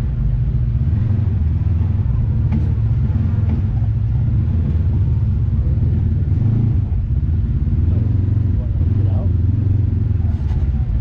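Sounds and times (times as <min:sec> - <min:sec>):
off-road vehicle engine drone: 0:00.0 - 0:11.0.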